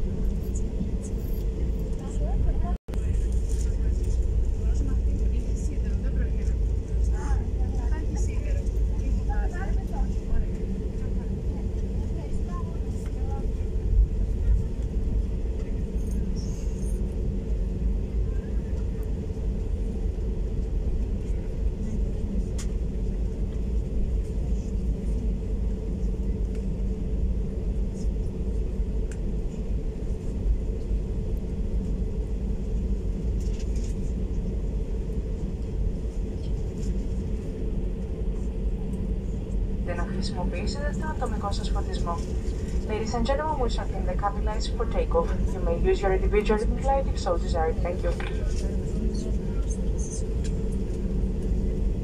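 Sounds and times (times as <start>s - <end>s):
aircraft engine hum: 0.0s - 52.0s
aircraft rolling rumble: 0.0s - 52.0s.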